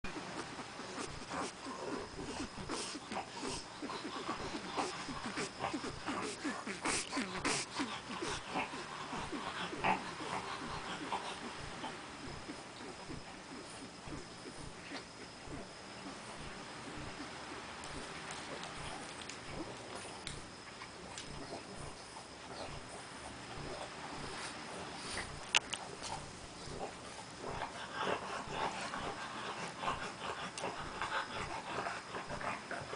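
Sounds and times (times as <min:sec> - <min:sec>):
puppy grunting and whimpering: 0:00.0 - 0:32.9
puppy snuffling breaths: 0:00.0 - 0:32.9.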